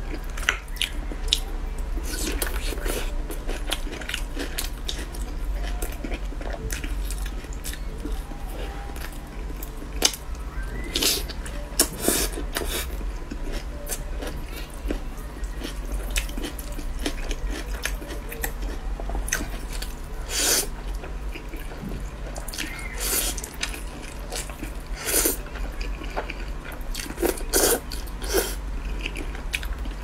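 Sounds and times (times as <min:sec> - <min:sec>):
steady low hum: 0:00.0 - 0:30.0
wet chewing and slurping noodles: 0:00.1 - 0:30.0.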